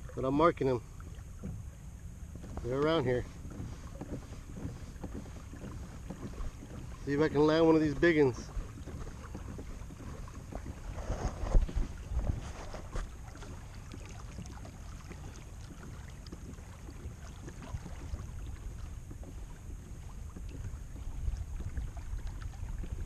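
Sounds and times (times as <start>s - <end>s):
wind rumbling on microphone: 0.0s - 23.0s
faint ticks and taps: 2.3s - 23.0s.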